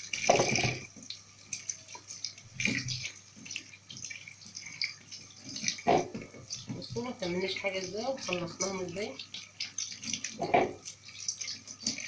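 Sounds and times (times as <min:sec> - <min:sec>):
water splashing in sink: 0:00.0 - 0:12.0.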